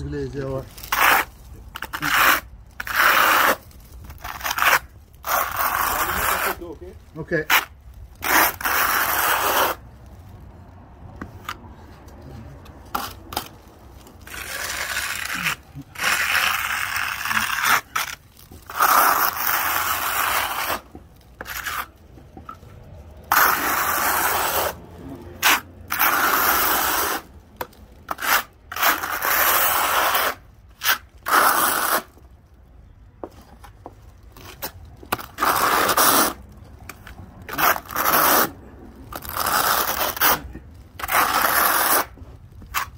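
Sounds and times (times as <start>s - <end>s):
trowel scraping concrete: 0.5s - 9.8s, 11.3s - 22.6s, 23.2s - 32.2s, 34.4s - 42.9s.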